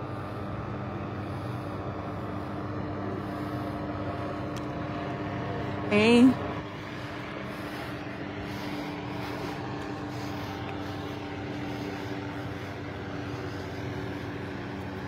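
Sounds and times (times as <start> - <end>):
helicopter engine drone: 0.0 - 15.0.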